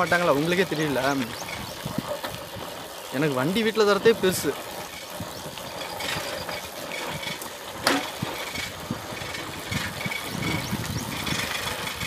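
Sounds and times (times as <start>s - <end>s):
moped rattling over stony track: 0.0s - 12.0s.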